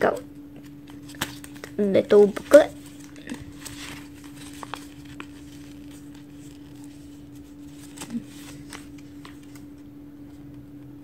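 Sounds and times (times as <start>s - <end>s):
steady low hum: 0.0s - 11.0s
paper rustling: 0.9s - 9.8s.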